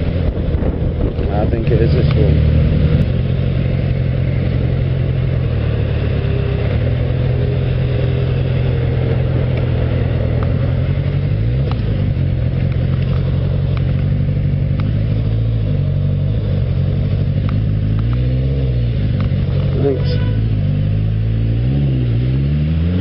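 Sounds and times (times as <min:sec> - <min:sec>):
motorcycle engine running: 0:00.0 - 0:23.0
road and wind noise: 0:00.0 - 0:23.0.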